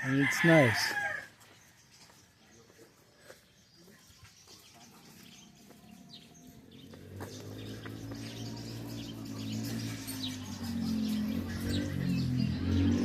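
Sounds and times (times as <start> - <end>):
small birds chirping: 0.9 - 13.0.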